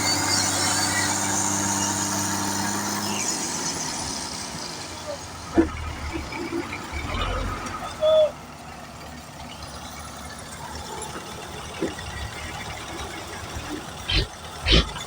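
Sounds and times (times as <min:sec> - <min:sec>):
construction machine engine running: 0:00.0 - 0:15.0.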